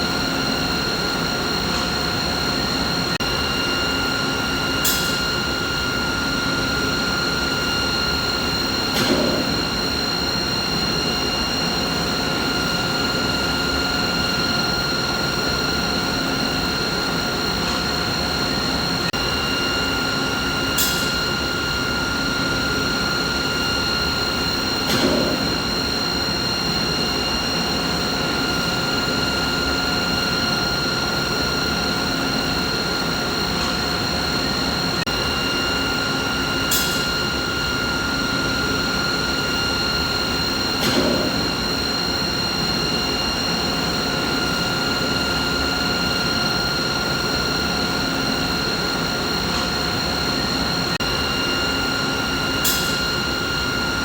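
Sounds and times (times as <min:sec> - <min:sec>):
machinery hum with whining tones: 0:00.0 - 0:54.0.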